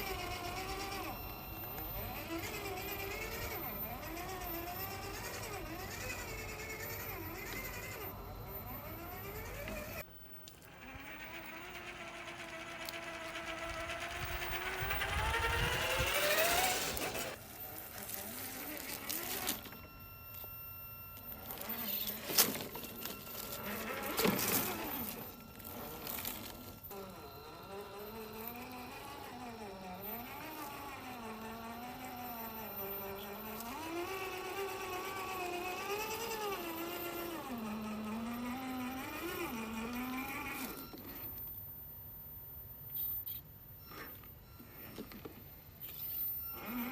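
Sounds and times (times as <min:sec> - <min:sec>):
electric motor and gears whining: 0:00.0 - 0:41.6, 0:43.9 - 0:46.9.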